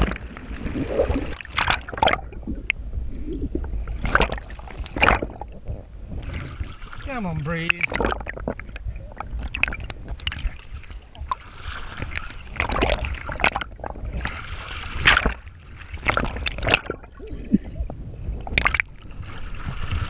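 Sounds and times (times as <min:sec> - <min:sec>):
water splashing and gurgling: 0:00.0 - 0:20.0
wind rumble on microphone: 0:00.0 - 0:20.0.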